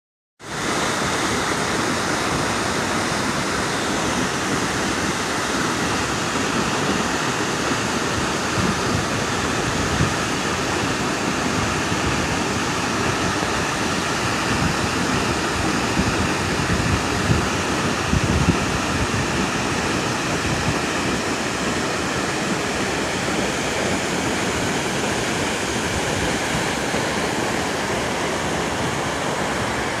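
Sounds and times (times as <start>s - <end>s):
waterfall rushing: 0.4s - 30.0s.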